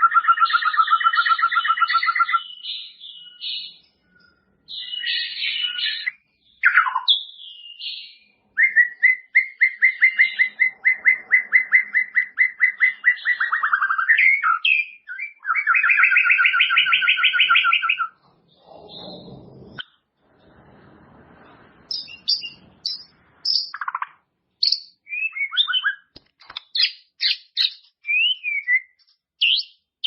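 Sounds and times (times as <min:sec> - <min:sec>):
bird singing whistled notes: 0:00.0 - 0:19.9, 0:21.9 - 0:24.0, 0:24.6 - 0:26.1, 0:26.7 - 0:30.0.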